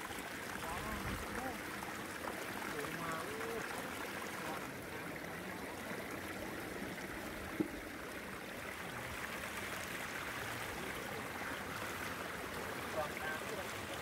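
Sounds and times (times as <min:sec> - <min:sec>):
stream water pouring over rocks: 0:00.0 - 0:14.0.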